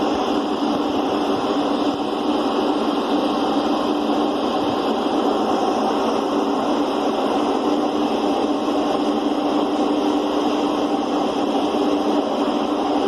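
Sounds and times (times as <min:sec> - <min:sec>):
constant hum: 0:00.0 - 0:13.0
even rushing noise: 0:00.0 - 0:13.0
ship engines droning: 0:00.0 - 0:13.0.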